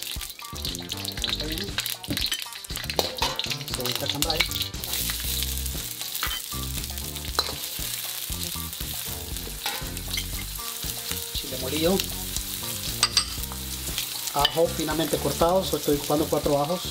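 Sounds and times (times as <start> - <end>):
chiles sizzling in hot oil: 0.0 - 16.9.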